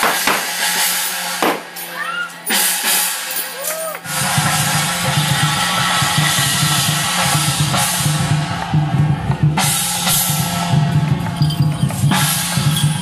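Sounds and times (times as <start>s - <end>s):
cymbals ringing: 0.0s - 8.6s, 9.6s - 13.0s
drums keeping steady beat: 0.0s - 13.0s.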